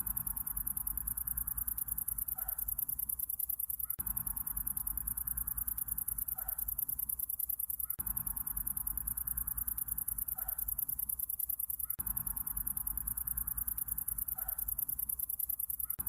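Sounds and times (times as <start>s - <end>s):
distant insects humming: 0.0s - 16.0s
insects chirping: 0.0s - 16.0s.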